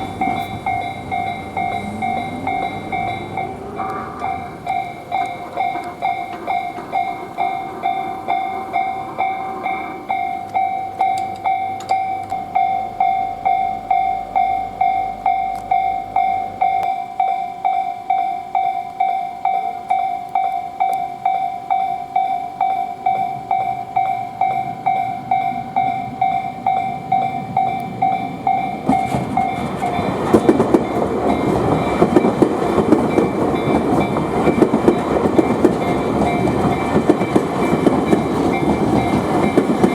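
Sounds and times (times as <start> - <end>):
train wheel clatter: 0.0 - 17.4, 23.1 - 39.9
electric train passing: 0.0 - 39.9
level-crossing warning bell ringing: 0.0 - 39.9.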